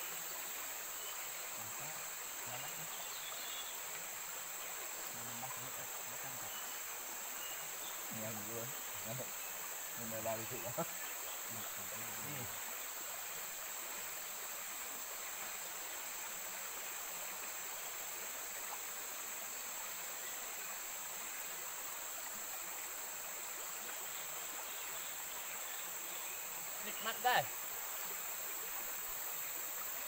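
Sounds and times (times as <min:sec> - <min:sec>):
forest insects droning: 0:00.0 - 0:30.0
shallow stream rushing: 0:00.0 - 0:30.0.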